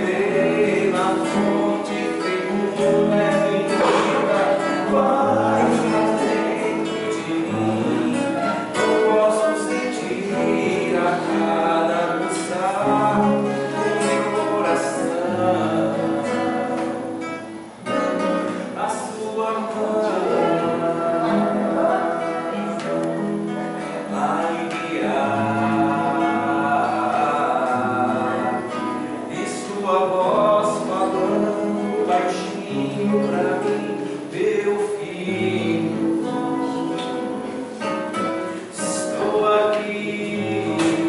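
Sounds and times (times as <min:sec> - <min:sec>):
acoustic guitar strummed and plucked: 0:00.0 - 0:41.0
person singing: 0:00.0 - 0:41.0.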